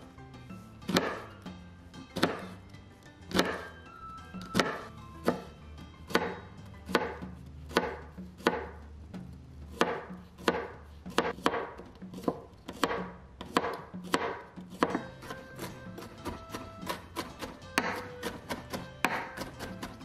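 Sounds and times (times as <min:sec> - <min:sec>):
knife chopping on cutting board: 0:00.8 - 0:01.4, 0:02.0 - 0:02.6, 0:03.2 - 0:03.8, 0:04.4 - 0:08.9, 0:09.7 - 0:20.0.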